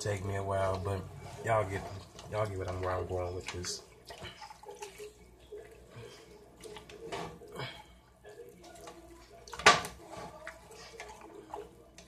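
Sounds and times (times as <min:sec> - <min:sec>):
spaghetti squishing: 0:00.0 - 0:12.0.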